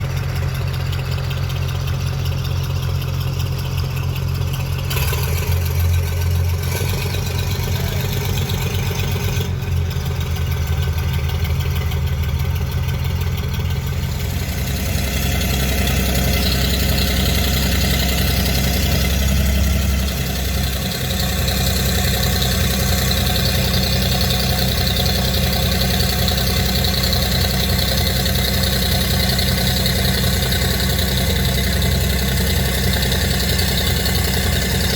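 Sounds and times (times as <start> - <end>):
engine droning: 0.0 - 34.9.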